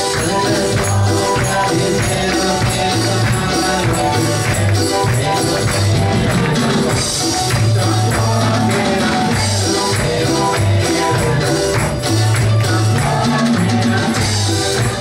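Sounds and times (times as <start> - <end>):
drums: 0.0 - 15.0
jingling tambourine: 0.0 - 15.0
live church band playing: 0.0 - 15.0
voices singing: 0.0 - 15.0
walking bass line: 0.0 - 15.0.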